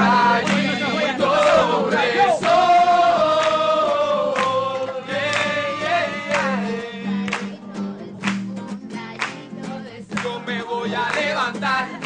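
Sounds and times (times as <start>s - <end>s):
acoustic guitars strumming: 0.0s - 12.0s
young voices singing: 0.0s - 12.0s.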